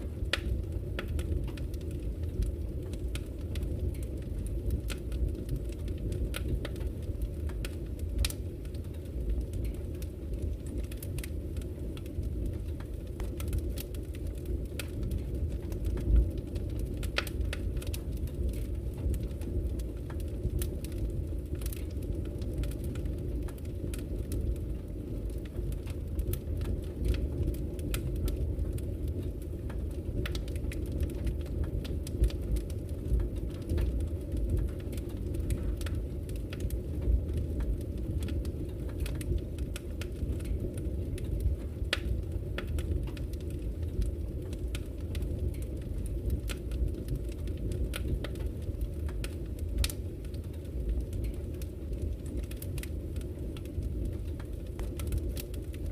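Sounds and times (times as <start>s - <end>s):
fire flames rumbling: 0.0s - 55.9s
wood crackling and popping: 0.0s - 55.9s.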